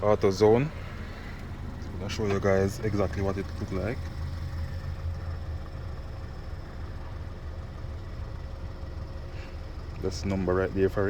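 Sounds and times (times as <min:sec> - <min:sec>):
car engine idling: 0:00.0 - 0:11.0
faint steady tone: 0:00.0 - 0:11.0.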